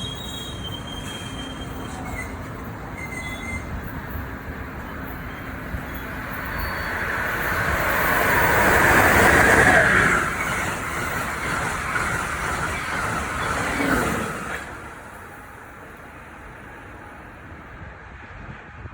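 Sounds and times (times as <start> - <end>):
train rolling on rails: 0.0 - 18.9.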